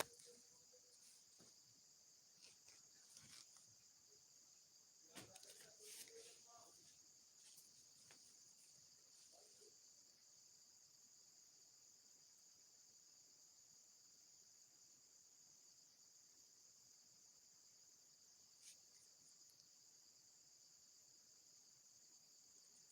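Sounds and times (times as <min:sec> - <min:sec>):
crickets chirping: 0:00.0 - 0:22.9.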